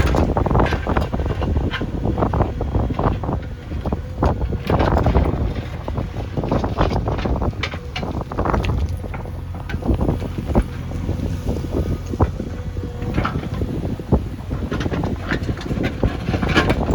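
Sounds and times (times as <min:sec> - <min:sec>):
diesel engine running: 0:00.0 - 0:16.9
wind buffeting microphone: 0:00.0 - 0:16.9.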